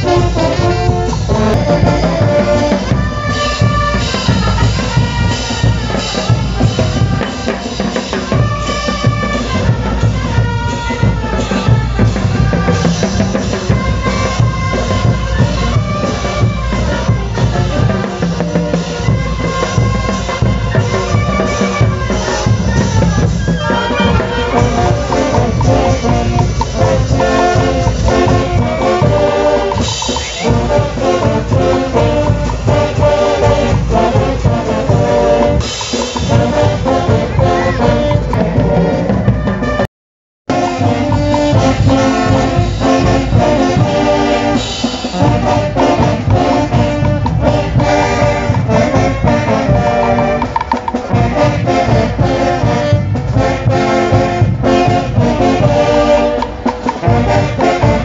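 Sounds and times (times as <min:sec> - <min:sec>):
bass drum and snare beat: 0:00.0 - 0:39.9, 0:40.5 - 0:58.0
brass band playing dance music: 0:00.0 - 0:39.9, 0:40.5 - 0:58.0.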